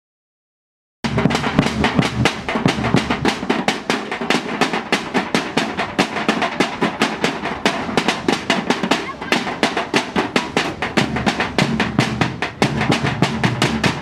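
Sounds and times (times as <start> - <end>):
deep booming drum hits: 1.0 - 14.0
drumming on tin cans: 1.1 - 14.0.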